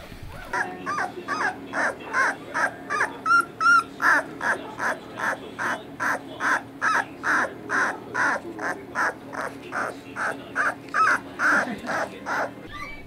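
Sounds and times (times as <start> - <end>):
puppy yelping: 0.3 - 13.0.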